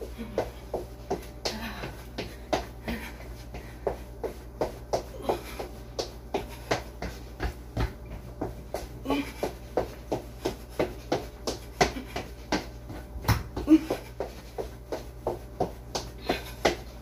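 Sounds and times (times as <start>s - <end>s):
steady low hum: 0.0s - 17.0s
soft footfall thuds: 0.2s - 17.0s.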